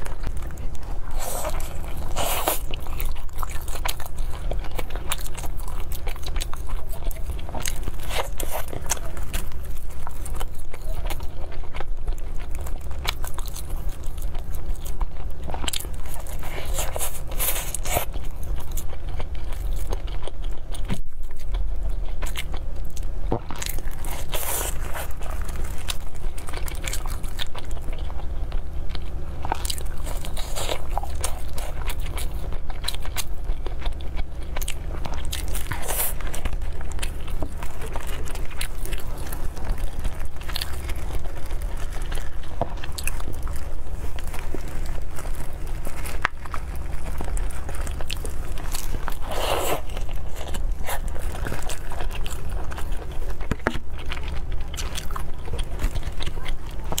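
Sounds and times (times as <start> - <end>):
crunching flaky pastry: 0.0 - 57.0.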